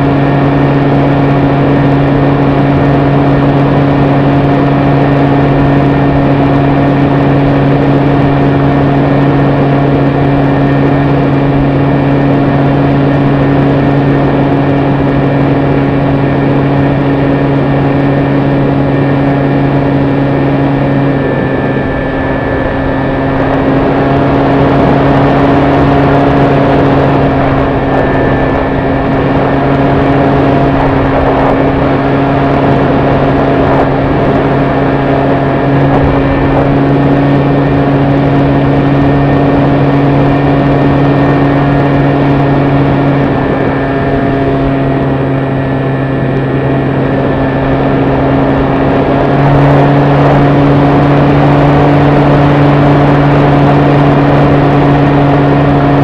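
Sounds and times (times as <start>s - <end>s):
model airplane motor humming: 0.0s - 56.0s
rushing air: 0.0s - 56.0s.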